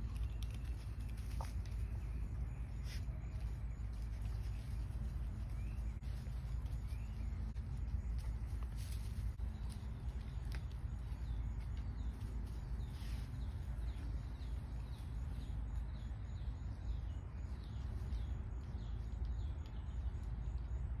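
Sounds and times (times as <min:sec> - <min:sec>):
bird chirping: 0:00.0 - 0:21.0
low rumble: 0:00.0 - 0:21.0.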